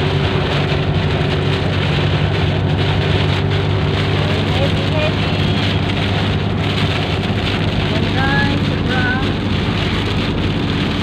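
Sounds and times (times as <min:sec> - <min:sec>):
engine and tyres humming: 0:00.0 - 0:11.0
heavy rain on a car: 0:00.0 - 0:11.0.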